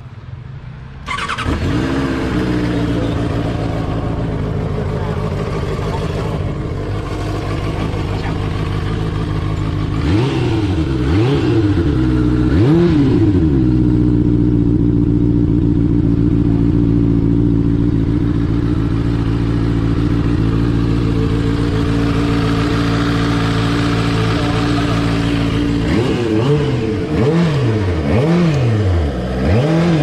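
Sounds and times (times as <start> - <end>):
motorcycle engine revving and idling: 1.0 - 30.0.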